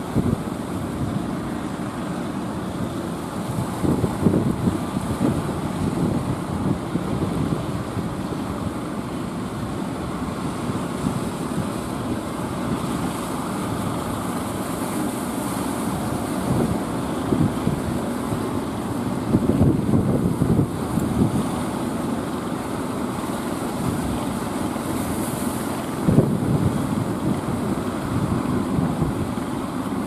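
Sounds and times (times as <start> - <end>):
wind buffeting microphone: 0.0 - 21.9, 23.2 - 30.0
surf rushing: 0.0 - 30.0.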